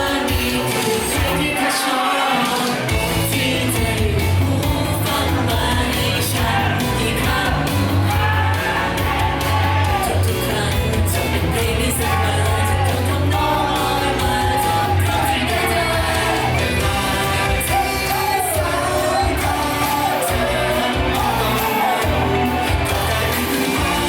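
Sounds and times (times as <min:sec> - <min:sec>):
pop song singing: 0:00.0 - 0:24.0
audience shouting: 0:00.2 - 0:02.9, 0:06.1 - 0:10.6, 0:11.2 - 0:24.0
heavy bass beat: 0:02.7 - 0:24.0.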